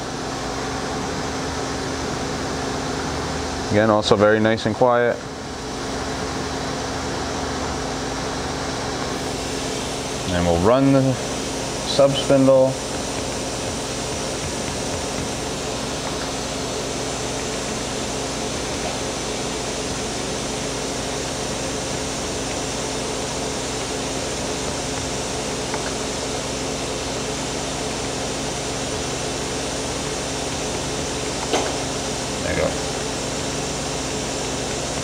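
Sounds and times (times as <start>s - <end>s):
machine humming: 0.0s - 35.0s.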